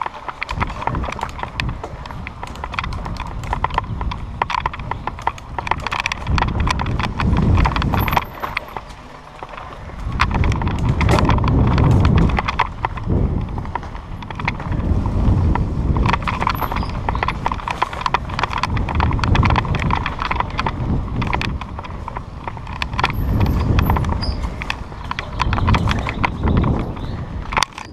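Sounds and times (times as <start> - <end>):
bike chain and frame rattling: 0.0 - 27.9
wind rumbling on microphone: 0.0 - 27.9.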